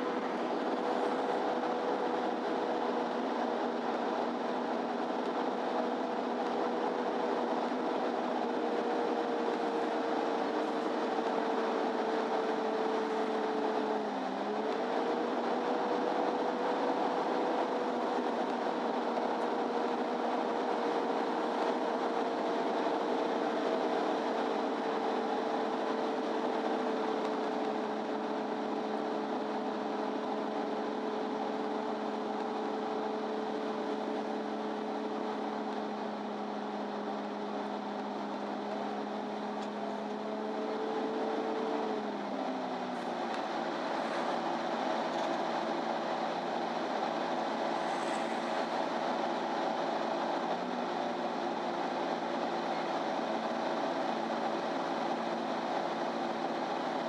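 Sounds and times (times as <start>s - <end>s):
bus engine running: 0.0s - 57.0s
drivetrain whine: 0.0s - 57.0s
road noise: 0.0s - 57.0s.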